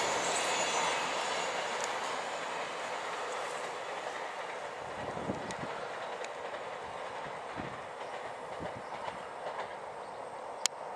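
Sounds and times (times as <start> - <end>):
train rolling rail noise: 0.0 - 10.9.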